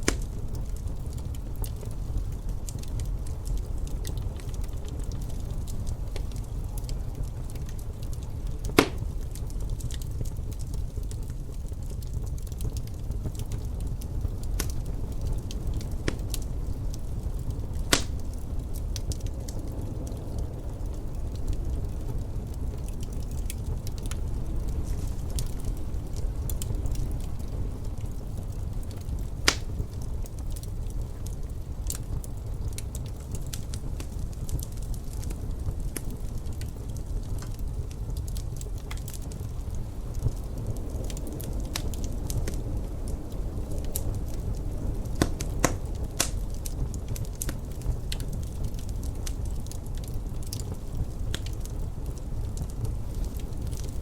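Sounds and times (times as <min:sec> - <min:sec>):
fire pops: 0:00.0 - 0:54.0
low wind rumble: 0:00.0 - 0:54.0
wood fire crackling: 0:00.0 - 0:54.0.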